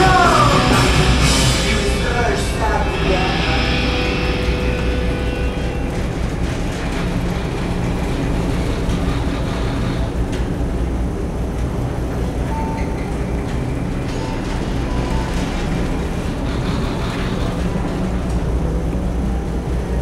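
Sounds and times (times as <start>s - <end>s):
ship engine low rumble: 0.0s - 20.0s.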